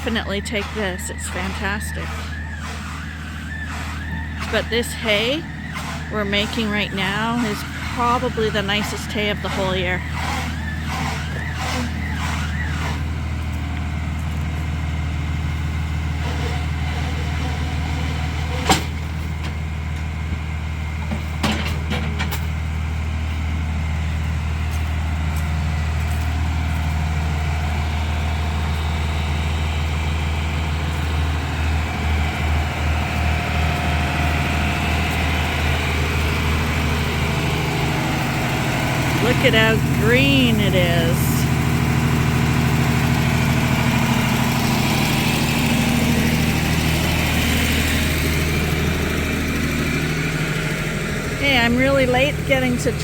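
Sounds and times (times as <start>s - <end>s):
heavy engine running: 0.0s - 53.0s.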